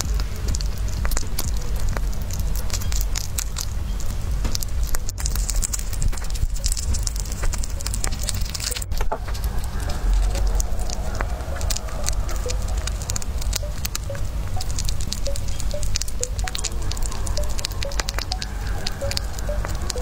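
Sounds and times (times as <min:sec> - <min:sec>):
animal chewing crunchy insect: 0:00.0 - 0:20.0.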